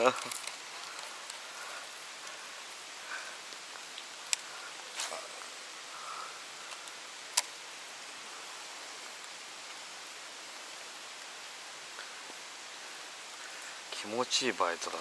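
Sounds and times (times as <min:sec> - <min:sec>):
light rain on water and foliage: 0:00.0 - 0:15.0.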